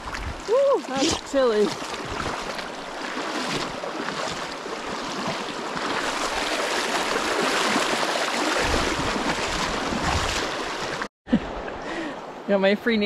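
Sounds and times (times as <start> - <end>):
stream rushing over rocks: 0.0 - 11.8.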